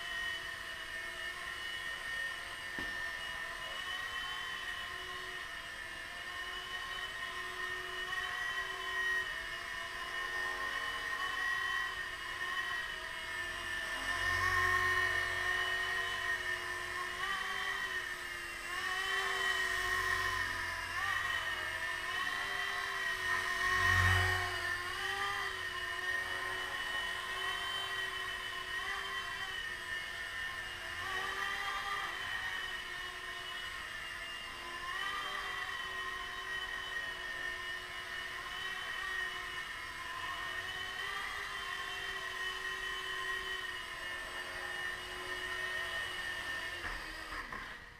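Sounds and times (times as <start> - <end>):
rc helicopter rotor whine: 0.0 - 47.9.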